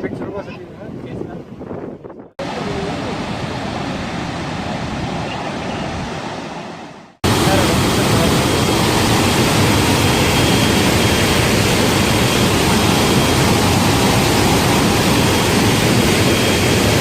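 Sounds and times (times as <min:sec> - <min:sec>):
water rushing from dam outlet: 0:02.4 - 0:06.6, 0:07.3 - 0:17.0.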